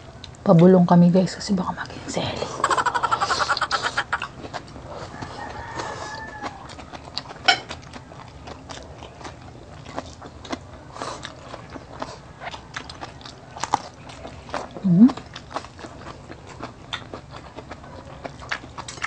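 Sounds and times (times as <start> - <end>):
chewing and lip smacks: 3.2 - 19.0.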